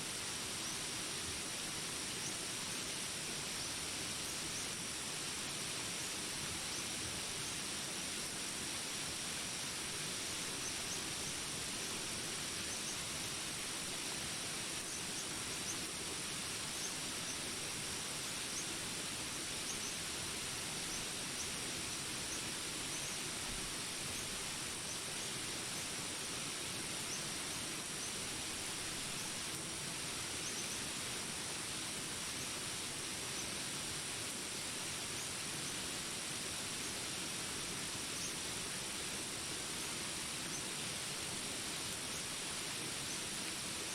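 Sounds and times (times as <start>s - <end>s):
rain hiss: 0.0s - 43.9s.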